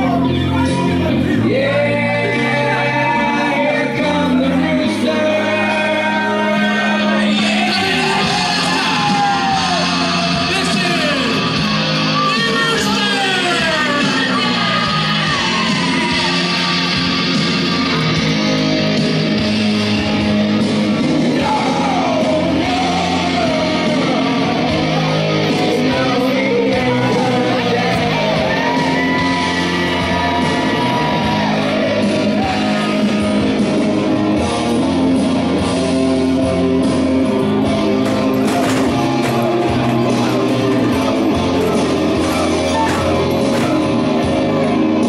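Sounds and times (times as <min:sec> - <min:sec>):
rock song with vocal and guitar: 0:00.0 - 0:45.0.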